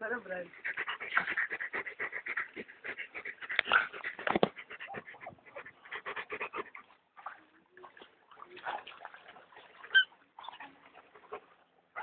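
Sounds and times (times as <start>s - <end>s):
dogs playing noisily: 0.4s - 7.4s, 8.6s - 12.0s.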